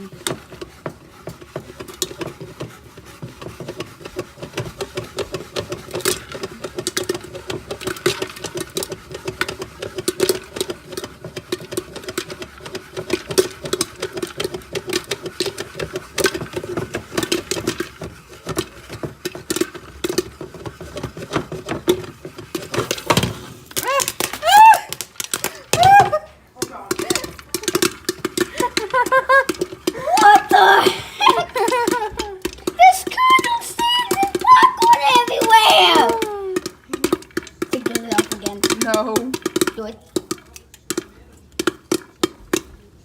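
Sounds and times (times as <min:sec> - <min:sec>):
popcorn popping in pot: 0:00.0 - 0:43.0.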